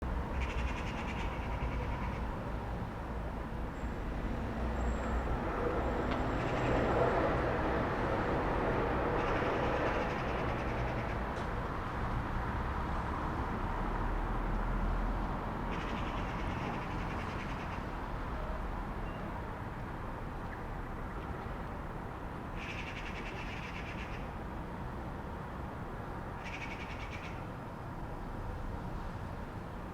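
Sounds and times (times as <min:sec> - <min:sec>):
traffic rumble and hum: 0:00.0 - 0:29.9.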